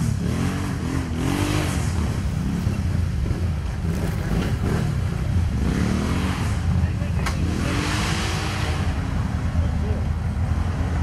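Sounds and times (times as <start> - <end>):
quad bike engines revving: 0.0 - 11.0.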